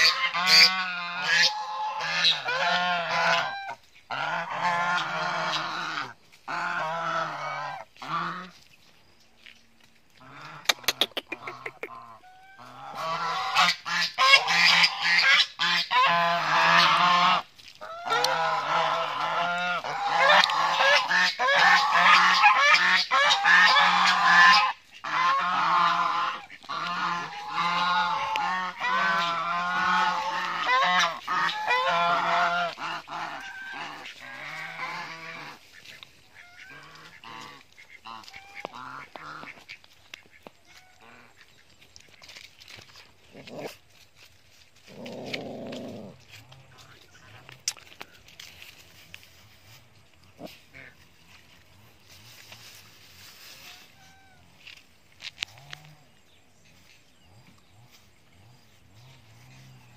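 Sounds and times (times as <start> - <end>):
geese honking: 0.0 - 8.6, 10.2 - 42.8, 46.6 - 56.1.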